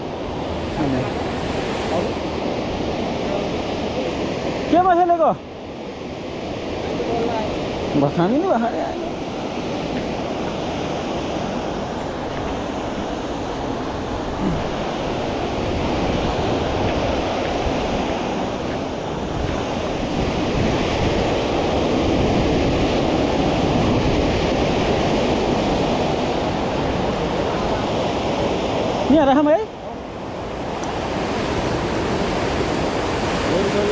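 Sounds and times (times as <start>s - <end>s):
river rapids rushing: 0.0s - 33.9s.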